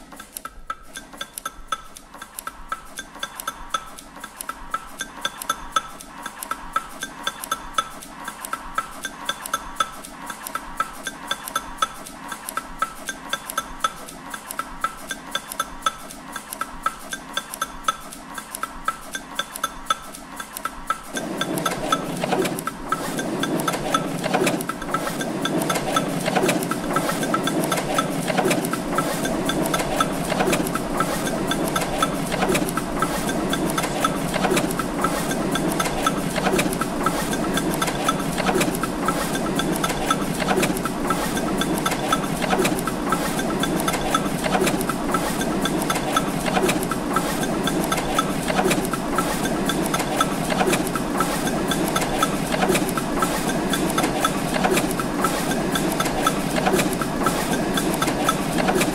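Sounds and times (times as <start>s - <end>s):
machine clattering with fast ticks: 0.0s - 58.9s.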